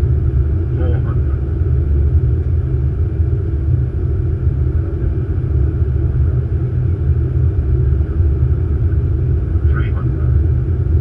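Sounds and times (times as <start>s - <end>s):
cockpit flight noise rumble: 0.0s - 11.0s.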